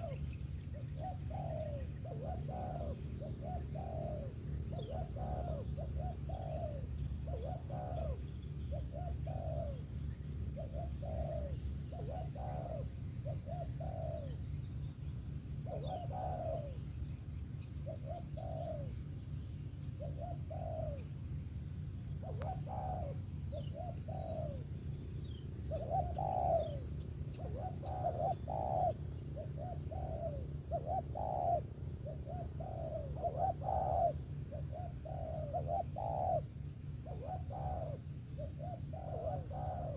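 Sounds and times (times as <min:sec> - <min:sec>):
dove cooing: 0:00.0 - 0:39.9
steady low hum: 0:00.0 - 0:39.9.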